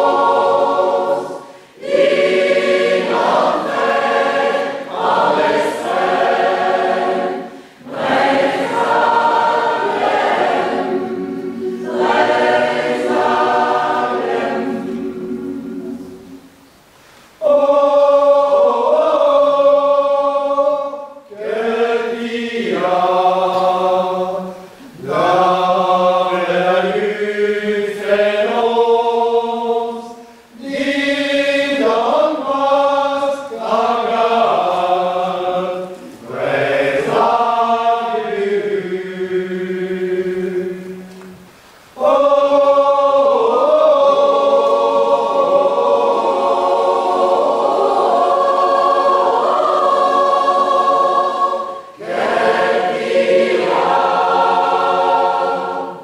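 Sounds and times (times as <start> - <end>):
mixed choir singing: 0.0 - 16.6, 17.4 - 56.0.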